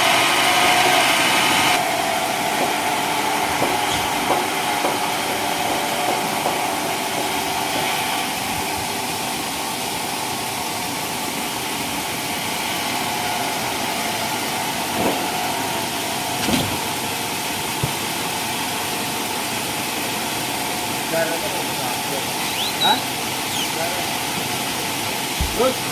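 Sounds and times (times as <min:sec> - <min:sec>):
sawmill running: 0:00.0 - 0:25.9.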